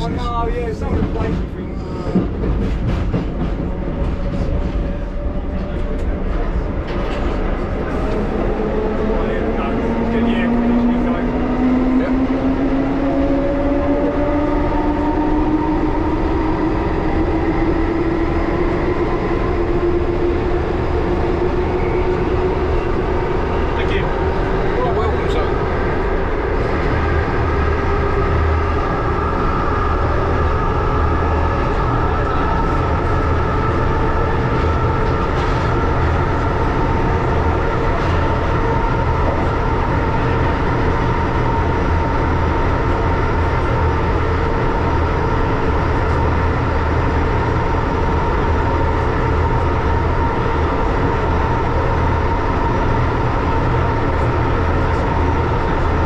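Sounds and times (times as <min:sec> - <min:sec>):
train whine: 0:00.0 - 0:56.0
underground train rumbling: 0:00.0 - 0:56.0.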